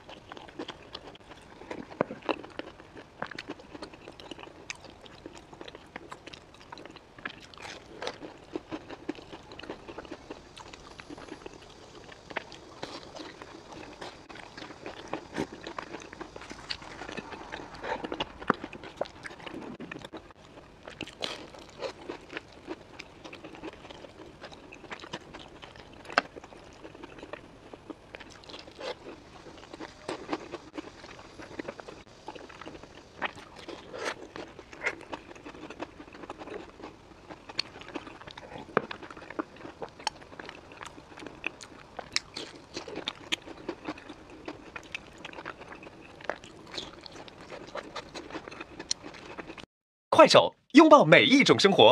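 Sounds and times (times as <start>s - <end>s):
crisp pastry chewing: 0.0s - 49.7s.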